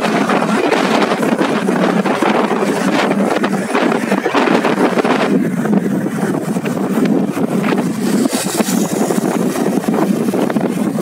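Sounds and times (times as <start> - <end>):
motorcycle engine running: 0.0 - 11.0
wind rushing on microphone: 0.0 - 11.0.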